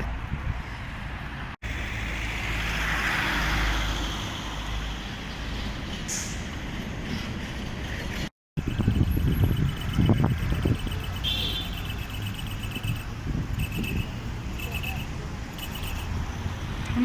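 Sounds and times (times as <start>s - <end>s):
low traffic rumble: 0.0s - 17.0s
vehicle passing close: 0.8s - 17.0s.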